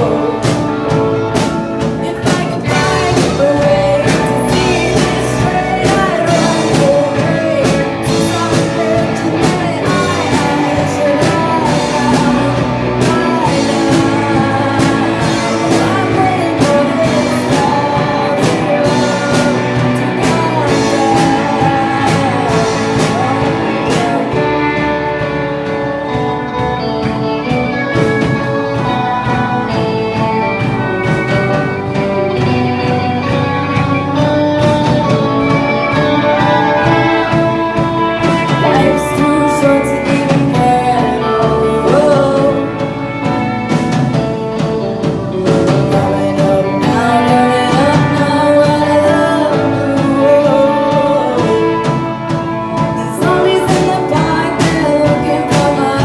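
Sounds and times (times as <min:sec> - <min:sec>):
rock song with singer and guitar: 0:00.0 - 0:56.0.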